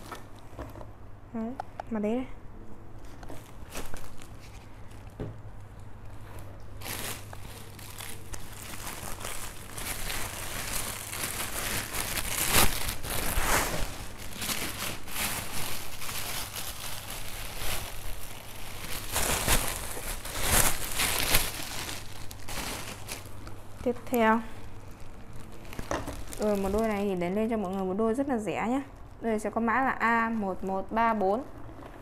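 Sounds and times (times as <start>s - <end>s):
plastic bags crinkling: 3.1s - 30.4s.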